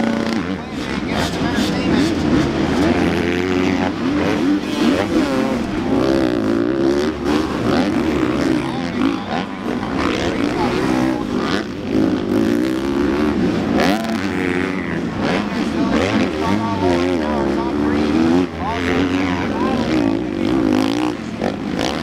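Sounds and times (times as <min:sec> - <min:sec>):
motocross bikes revving past: 0:00.0 - 0:22.0.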